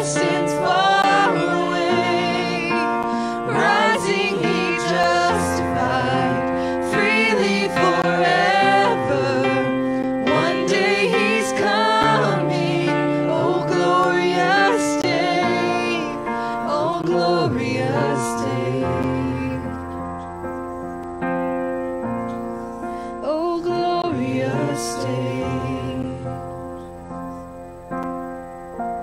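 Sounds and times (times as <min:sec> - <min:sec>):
choir singing gospel song: 0:00.0 - 0:20.3, 0:23.2 - 0:26.9
electric keyboard chords: 0:00.0 - 0:29.0.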